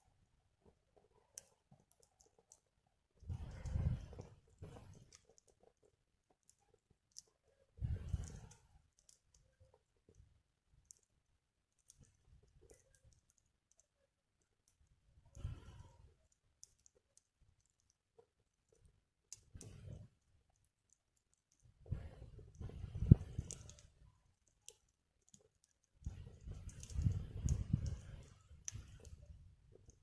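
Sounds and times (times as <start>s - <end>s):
wood fire crackling: 3.2s - 13.8s, 14.4s - 30.0s.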